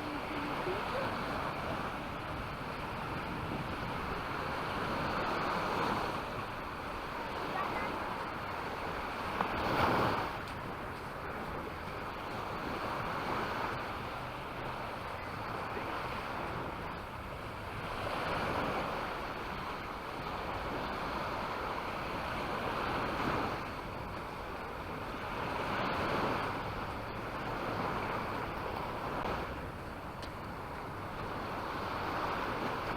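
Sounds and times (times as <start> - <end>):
small waves breaking on beach: 0.0 - 32.9
wind on microphone: 0.0 - 32.9.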